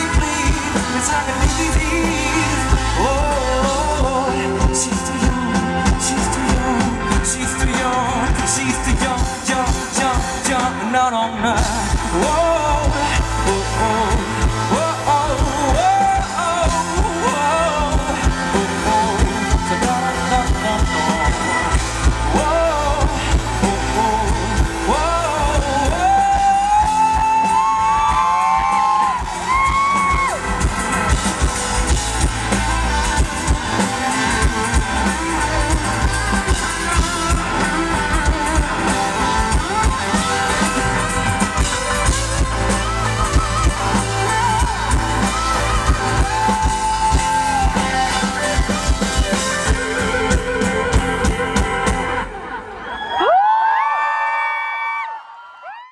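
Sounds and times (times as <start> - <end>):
man singing wordless vocals: 0.0 - 30.4, 31.1 - 52.3
drum kit: 0.0 - 52.9.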